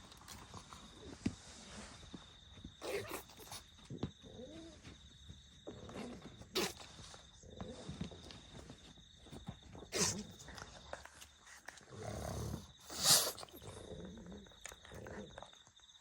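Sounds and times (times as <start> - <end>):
dog groaning softly: 2.8 - 15.8.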